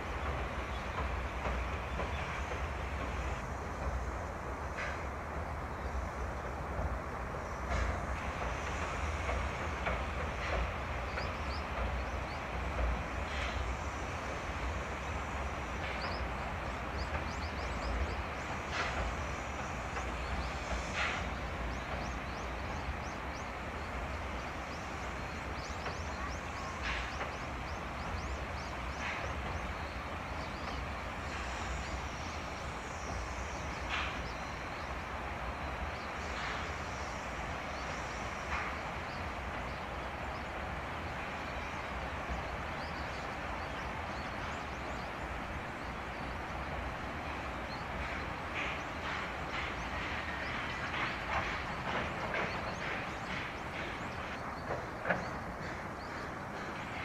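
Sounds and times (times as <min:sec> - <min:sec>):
short sharp steam bursts: 0:00.0 - 0:57.0
train low rumble: 0:00.0 - 0:57.0.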